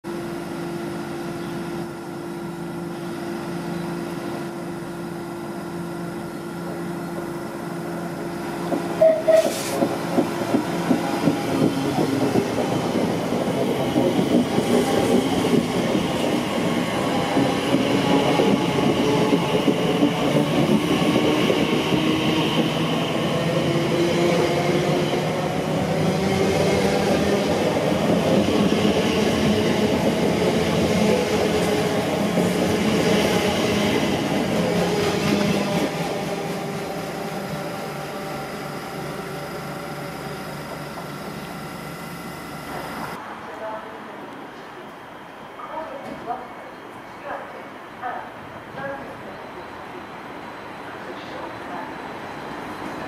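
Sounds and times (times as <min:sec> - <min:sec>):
electric train humming: 0:00.1 - 0:43.2.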